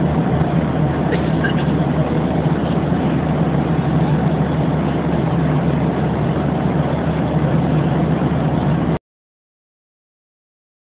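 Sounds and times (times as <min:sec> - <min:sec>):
jet engine and airflow noise: 0:00.0 - 0:09.0
low cabin hum: 0:00.0 - 0:09.0.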